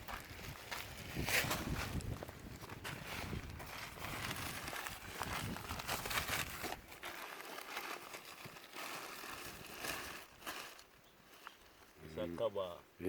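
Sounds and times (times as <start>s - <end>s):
dry leaves rustling and crackling: 0.3s - 12.0s.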